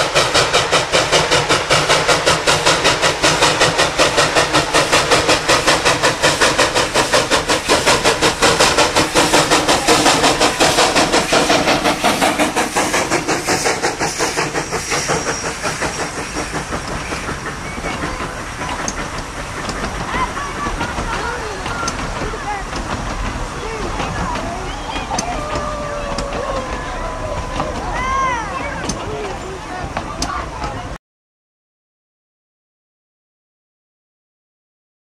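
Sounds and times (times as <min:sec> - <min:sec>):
steam locomotive chuffing: 0:00.0 - 0:31.0.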